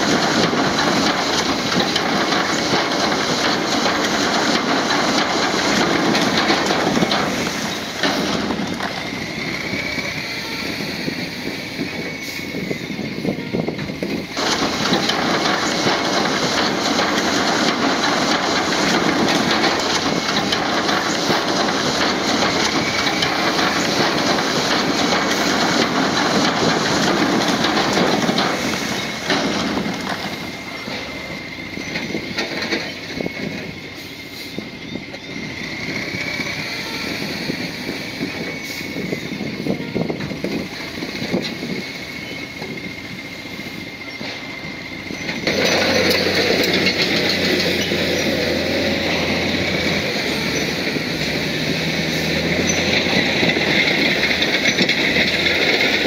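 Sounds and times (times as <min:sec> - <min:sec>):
bulldozer diesel engine running: 0:00.0 - 0:56.0
steel tracks clattering: 0:00.0 - 0:56.0.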